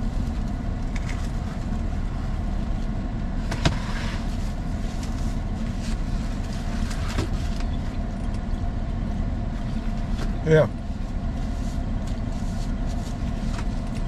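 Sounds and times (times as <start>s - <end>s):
car idling rumble: 0.0s - 14.0s.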